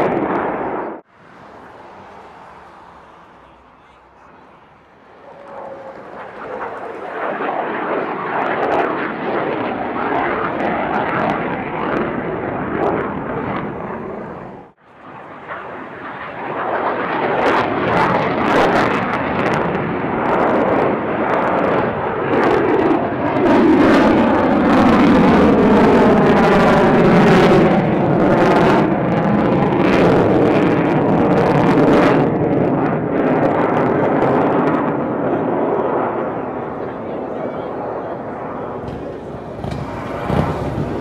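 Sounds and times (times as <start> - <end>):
loud jet roar: 0.0 - 41.0
jet engine crackles: 1.6 - 20.7, 21.3 - 41.0.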